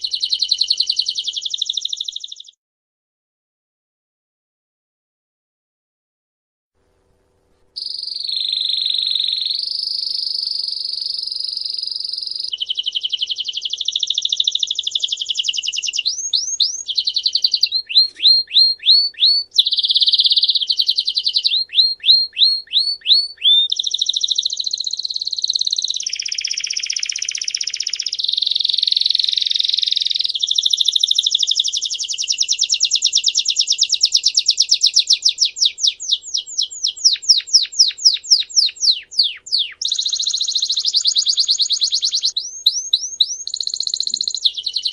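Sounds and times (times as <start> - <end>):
songbird singing trills: 0.0 - 2.6, 7.8 - 44.9.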